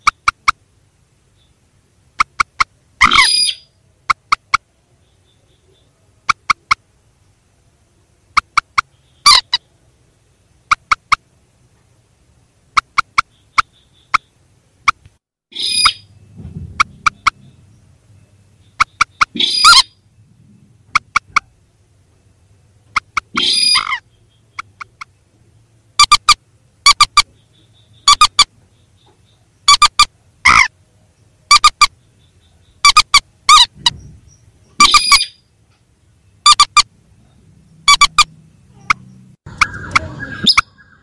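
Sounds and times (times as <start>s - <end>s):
recorded rail bird calls: 0.0s - 11.6s, 12.4s - 41.0s.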